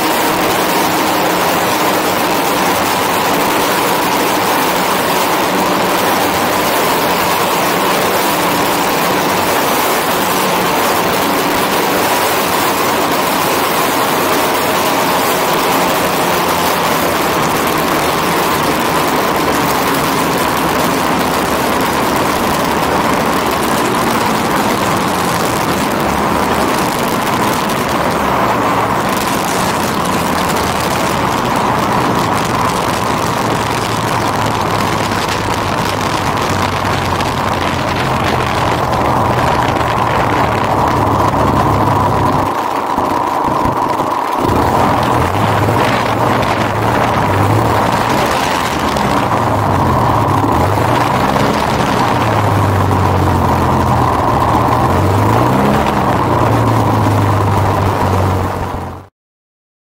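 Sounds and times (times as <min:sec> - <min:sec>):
model airplane engines running: 0:00.0 - 0:59.1
wind rush: 0:00.0 - 0:59.1.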